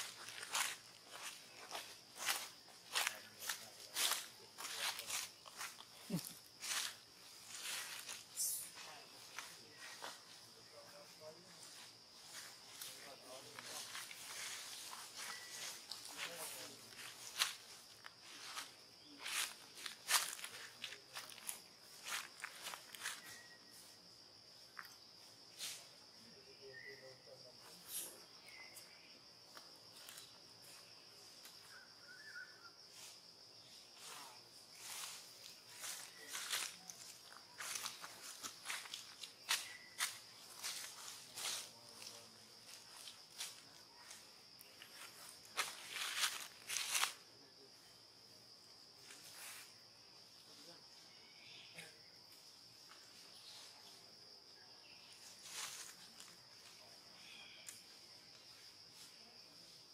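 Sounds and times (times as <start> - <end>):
faint chirps: 0.0 - 46.5, 50.3 - 59.8
insects droning: 0.0 - 59.9.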